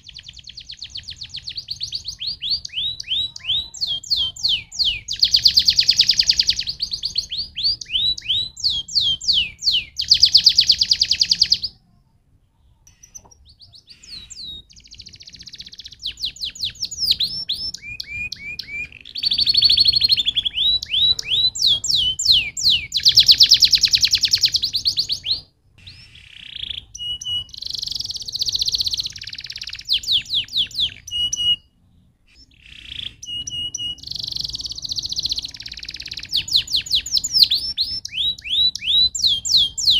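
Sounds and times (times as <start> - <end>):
canary singing trills: 0.0 - 11.8, 12.6 - 39.9.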